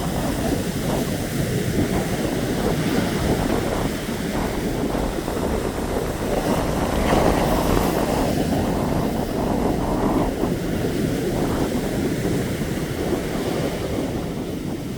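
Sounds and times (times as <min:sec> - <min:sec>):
sea surf washing ashore: 0:00.0 - 0:14.9
wind buffeting microphone: 0:00.0 - 0:14.9.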